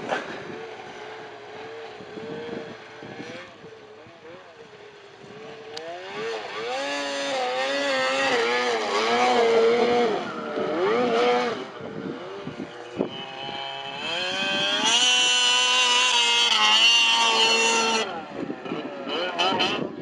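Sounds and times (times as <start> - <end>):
snowmobile engines revving: 0.0 - 20.0.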